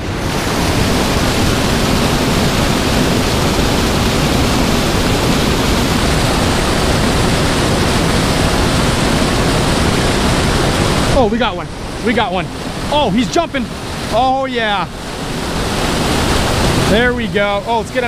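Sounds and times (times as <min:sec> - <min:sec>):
white water rushing: 0:00.0 - 0:18.0.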